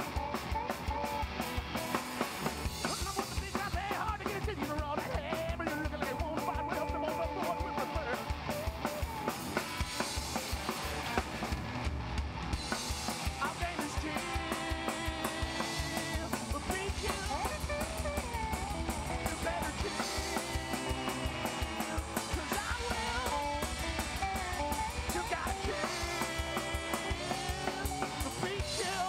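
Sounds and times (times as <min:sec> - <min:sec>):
drum kit beat: 0:00.0 - 0:29.0
rock and roll band playing: 0:00.0 - 0:29.0.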